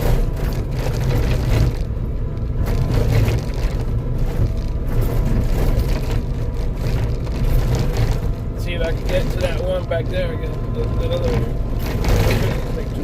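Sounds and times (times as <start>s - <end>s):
skid steer diesel engine: 0.0s - 13.0s
wood and brush cracking: 0.0s - 13.0s.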